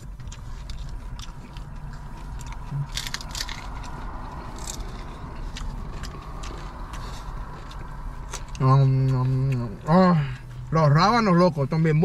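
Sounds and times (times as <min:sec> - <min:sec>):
biting and chewing taco: 0:00.0 - 0:09.8
low steady hum: 0:00.0 - 0:12.0.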